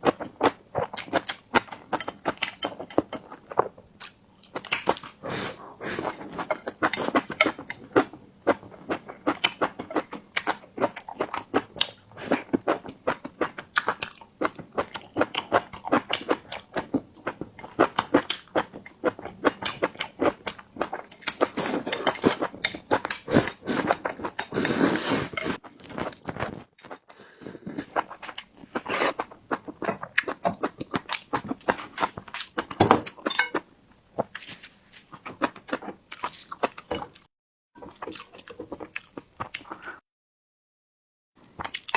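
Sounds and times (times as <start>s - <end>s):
chewing and mouth noises: 0.0s - 33.6s, 35.1s - 40.0s.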